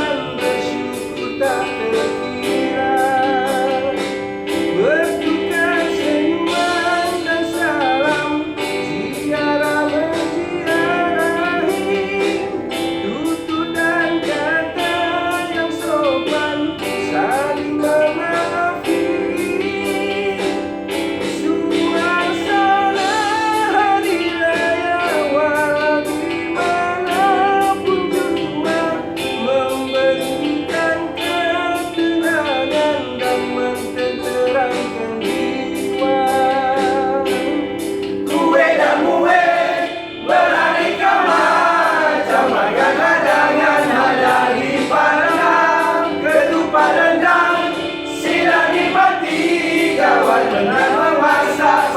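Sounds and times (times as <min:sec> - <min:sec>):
chorus of voices: 0:00.0 - 0:25.4, 0:35.4 - 0:51.9
singing over a steady beat: 0:00.0 - 0:51.9.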